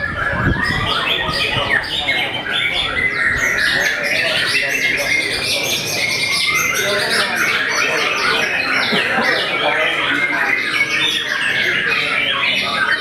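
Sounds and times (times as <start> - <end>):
songbirds chorus of chirps and trills: 0.0 - 13.0.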